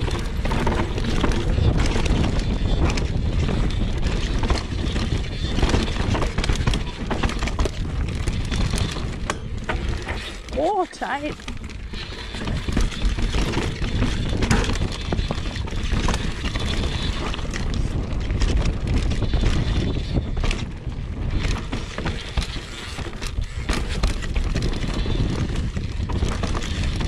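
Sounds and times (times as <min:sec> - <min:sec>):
bike rattling over bumps: 0:00.0 - 0:27.0
bike tyres rolling over dirt: 0:00.0 - 0:27.0
wind rumble on microphone: 0:00.0 - 0:27.0.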